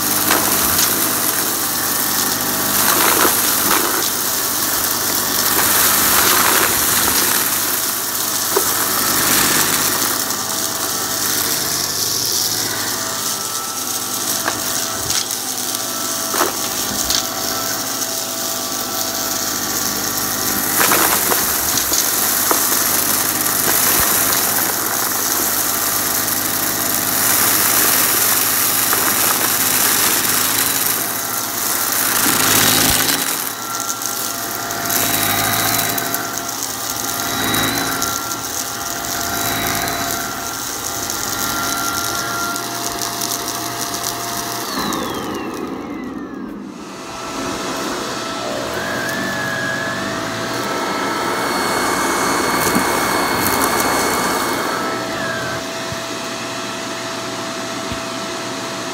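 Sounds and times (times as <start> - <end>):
debris clicking in vacuum: 0.0 - 46.2, 48.1 - 55.4
vacuum cleaner motor whine: 0.0 - 58.9.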